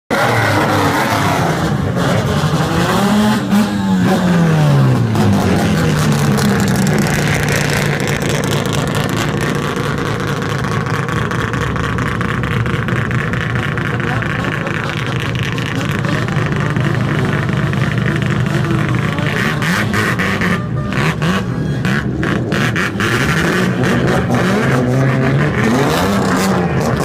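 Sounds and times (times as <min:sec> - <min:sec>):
cars with loud exhausts revving: 0:00.1 - 0:27.0.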